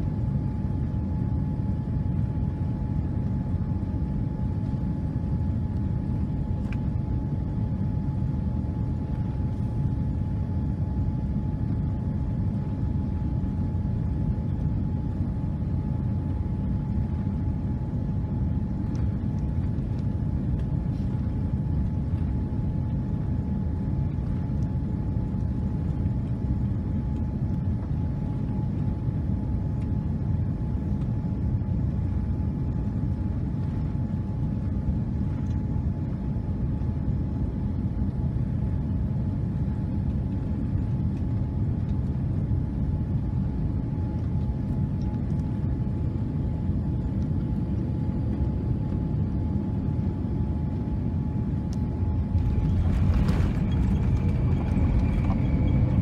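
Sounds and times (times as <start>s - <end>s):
aircraft cabin engine rumble: 0.0s - 56.0s
faint steady whine: 0.0s - 56.0s.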